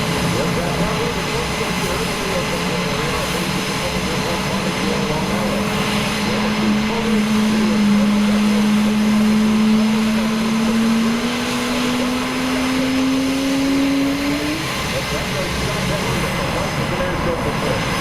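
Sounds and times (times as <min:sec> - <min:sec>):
aircraft engine droning overhead: 0:00.0 - 0:18.0.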